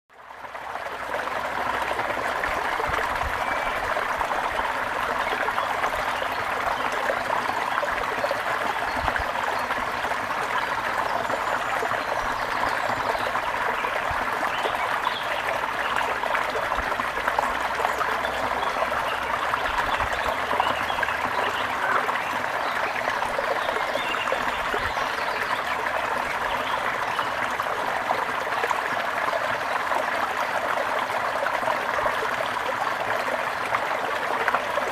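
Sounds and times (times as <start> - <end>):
river flowing: 0.2 - 34.9.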